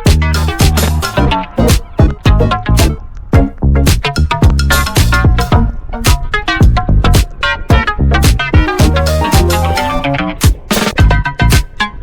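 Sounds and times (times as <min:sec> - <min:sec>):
steady drum beat: 0:00.0 - 0:09.7, 0:10.4 - 0:11.7
bass line: 0:00.0 - 0:11.8
upbeat background music: 0:00.0 - 0:12.0.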